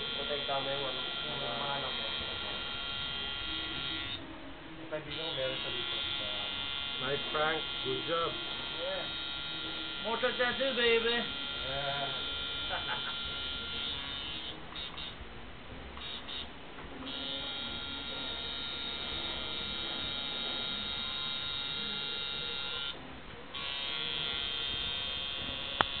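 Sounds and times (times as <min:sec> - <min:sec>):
tattoo machine buzzing: 0:00.0 - 0:04.2, 0:04.9 - 0:15.2, 0:16.0 - 0:26.0.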